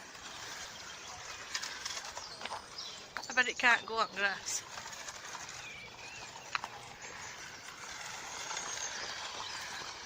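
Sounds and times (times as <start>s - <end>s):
remote-control car running: 0.0s - 10.0s.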